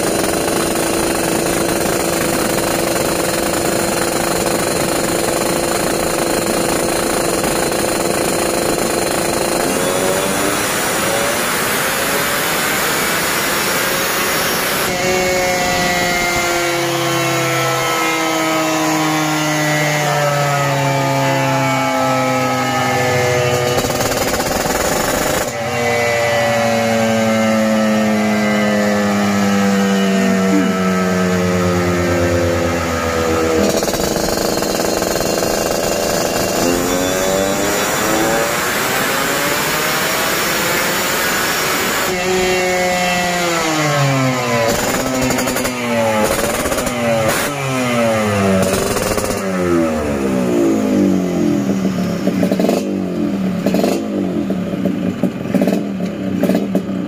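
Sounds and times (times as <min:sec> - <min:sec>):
two-stroke engine revving high: 0:00.0 - 0:57.0.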